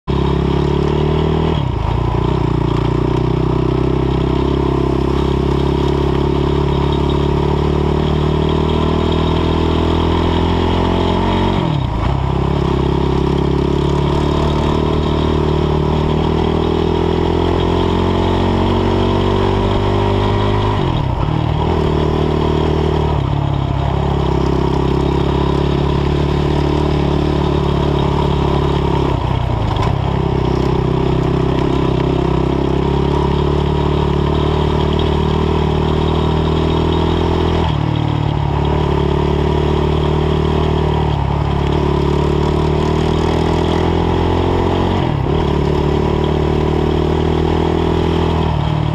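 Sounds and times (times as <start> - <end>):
quad bike engine revving: 0.0 - 48.9.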